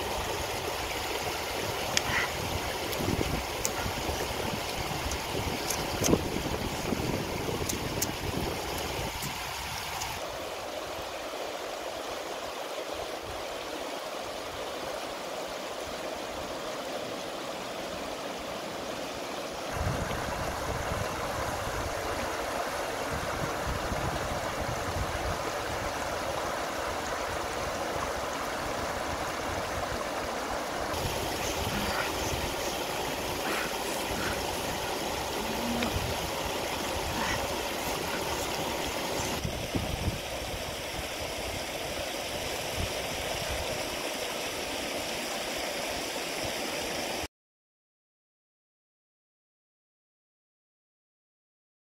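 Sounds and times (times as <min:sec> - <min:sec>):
river rushing over rocks: 0:00.0 - 0:47.2.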